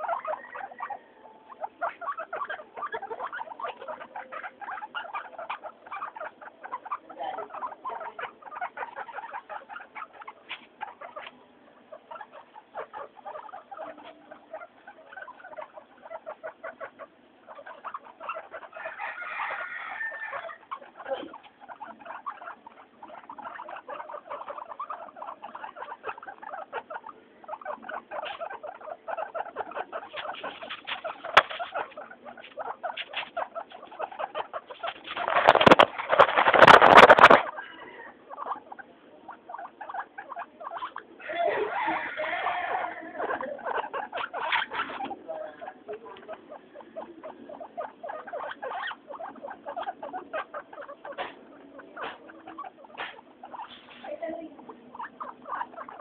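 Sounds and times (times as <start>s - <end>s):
guinea pigs squeaking: 0.0s - 56.0s.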